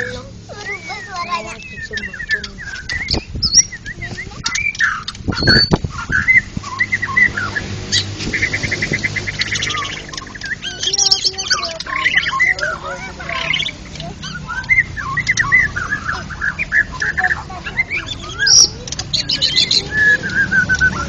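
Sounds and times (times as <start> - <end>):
birds whistling and chirping: 0.0 - 21.0.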